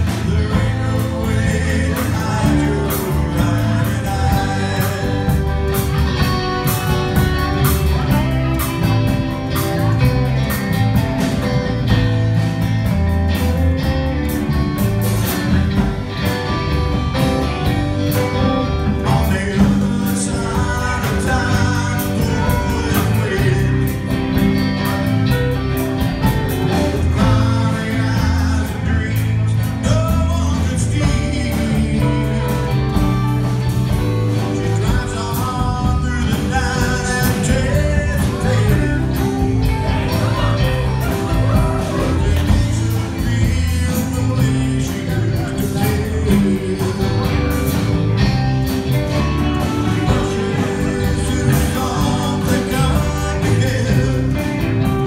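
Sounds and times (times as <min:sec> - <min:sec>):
person singing: 0:00.0 - 0:12.0, 0:15.1 - 0:55.0
drum kit with cymbal beat: 0:00.0 - 0:55.0
electric guitars: 0:00.0 - 0:55.0.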